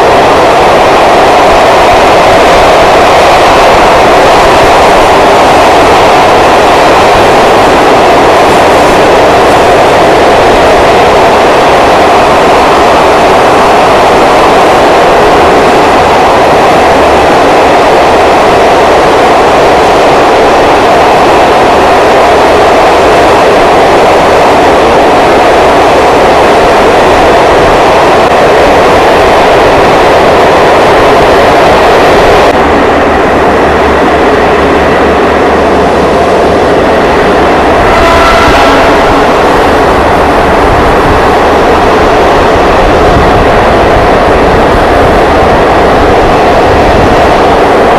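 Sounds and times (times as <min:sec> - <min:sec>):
train wheels roaring on rails: 0:00.0 - 0:47.9.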